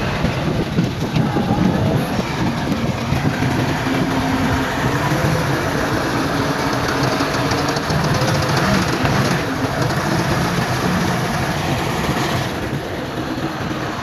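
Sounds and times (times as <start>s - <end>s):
diesel machinery engine hum: 0.0s - 14.0s.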